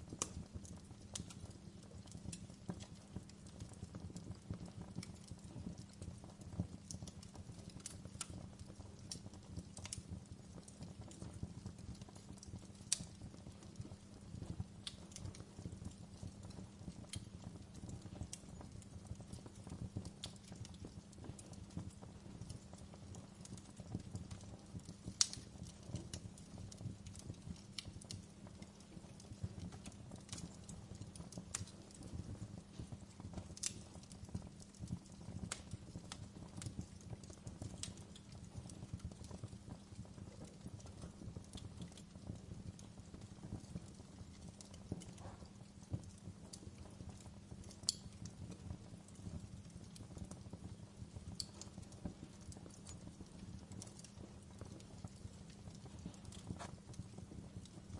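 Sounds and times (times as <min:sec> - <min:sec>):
low rumble of flames: 0:00.0 - 0:57.9
wood fire crackling and popping: 0:00.0 - 0:57.9.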